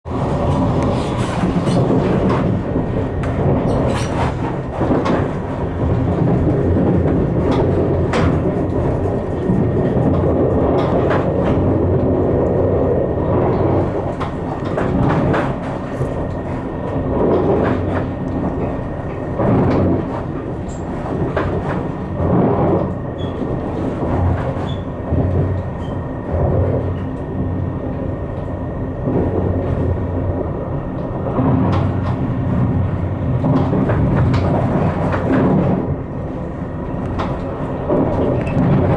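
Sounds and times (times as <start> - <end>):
train wheels rumbling on rails: 0.0 - 38.9
wheels clicking over rail joints: 0.1 - 38.9.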